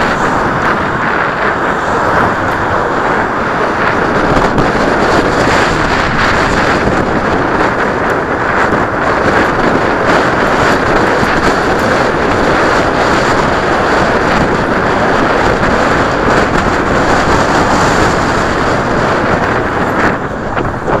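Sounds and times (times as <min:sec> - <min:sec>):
passing car traffic: 0:00.0 - 0:21.0
wind roaring over microphone: 0:00.0 - 0:21.0.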